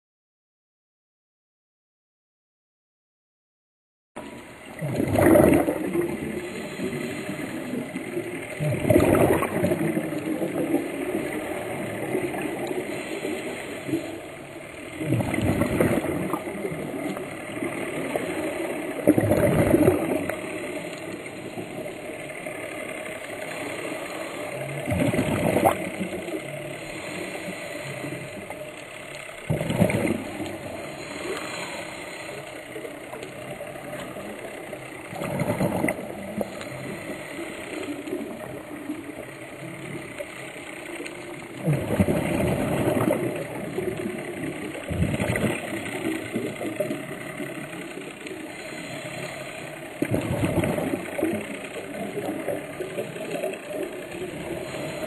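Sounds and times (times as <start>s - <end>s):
air bubbles from regulator: 4.2s - 55.0s
underwater hum: 4.2s - 55.0s.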